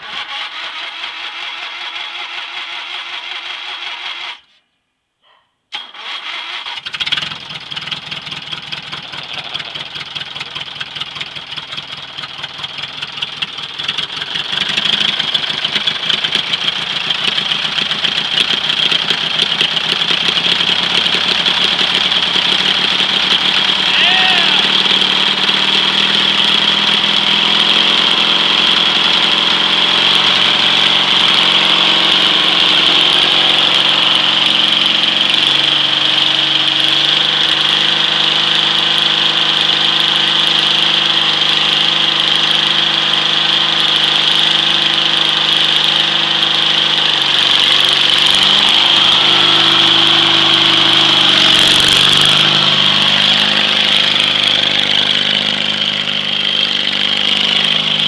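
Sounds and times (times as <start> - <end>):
lawn tractor engine running: 0.0 - 4.4, 5.8 - 58.0.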